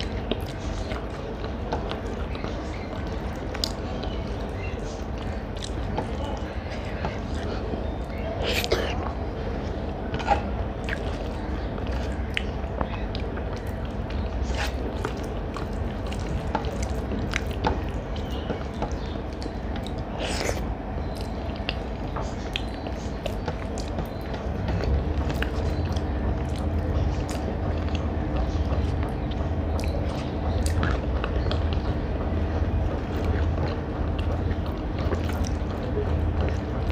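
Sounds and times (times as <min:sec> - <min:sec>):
low hum: 0:00.0 - 0:36.9
person chewing food: 0:00.0 - 0:36.9.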